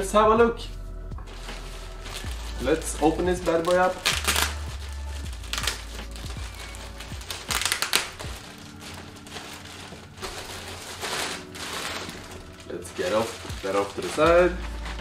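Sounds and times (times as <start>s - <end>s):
quiet background music: 0.0s - 15.0s
packaging crinkling: 1.2s - 15.0s.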